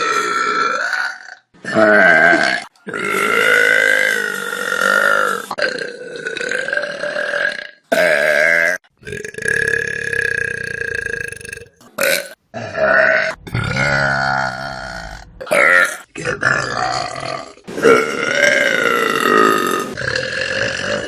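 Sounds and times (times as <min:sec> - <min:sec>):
people burping: 0:00.0 - 0:21.0.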